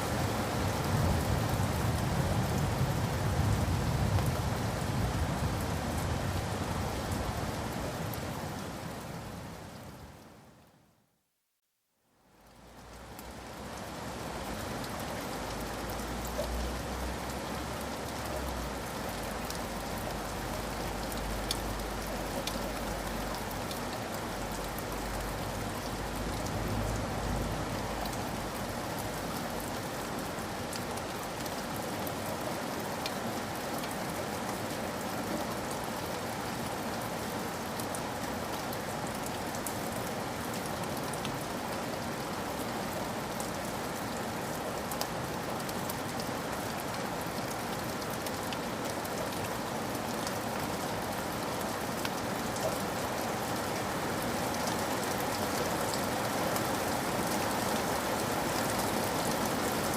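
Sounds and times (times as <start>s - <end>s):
steady rain on a surface: 0.0s - 59.9s.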